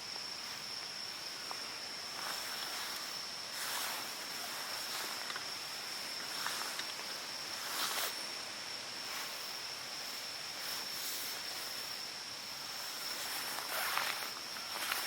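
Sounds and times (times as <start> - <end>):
forest background hiss: 0.0 - 15.0
high-pitched insect drone: 0.0 - 15.0
faint rustles: 1.4 - 8.3, 9.0 - 15.0.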